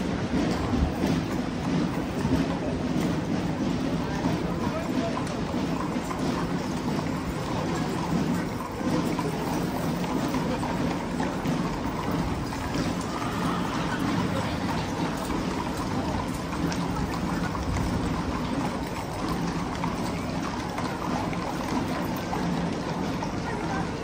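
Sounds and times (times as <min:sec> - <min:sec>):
crowd murmuring: 0:00.0 - 0:24.0
horse hooves clopping on pavement: 0:00.0 - 0:24.0.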